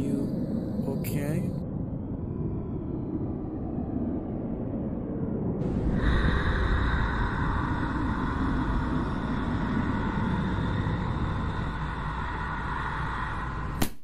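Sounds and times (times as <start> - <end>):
low rumbling drone: 0.0 - 13.9.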